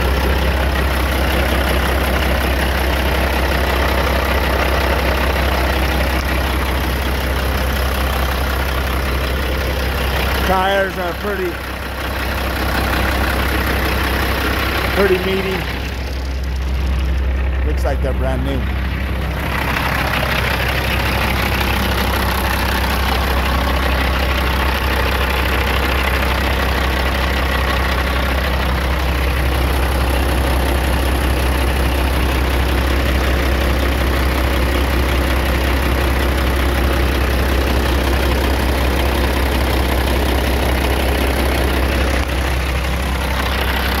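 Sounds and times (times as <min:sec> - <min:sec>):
truck diesel engine idling: 0:00.0 - 0:44.0.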